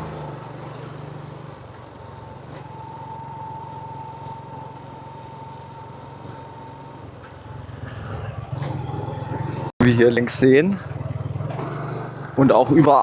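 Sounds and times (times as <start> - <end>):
motorbike engine humming: 0.0 - 13.0.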